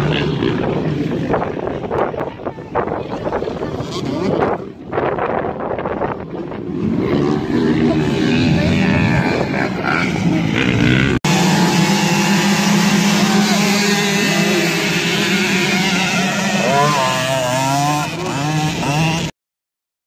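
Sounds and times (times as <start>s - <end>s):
motorcycle engines revving: 0.0s - 19.3s.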